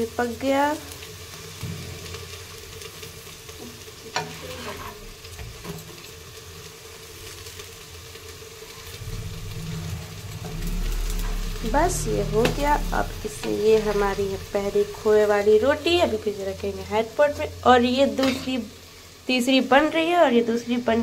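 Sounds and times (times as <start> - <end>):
flatbread sizzling on a griddle: 0.0 - 21.0.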